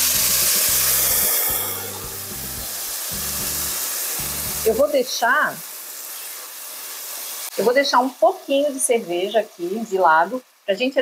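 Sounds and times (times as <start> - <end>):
beer hissing in hot pot: 0.0 - 11.0.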